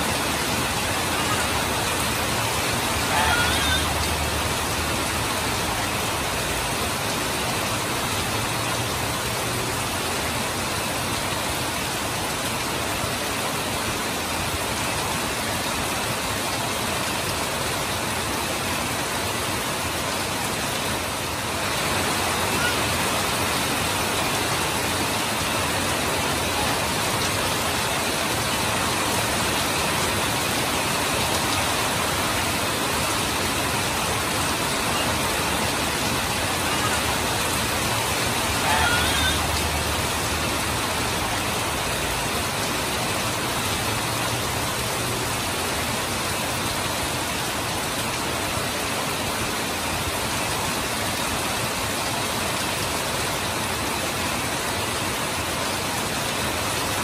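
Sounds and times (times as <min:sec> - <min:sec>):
heavy rain falling: 0:00.0 - 0:57.0
water streaming off roof edge: 0:00.0 - 0:57.0.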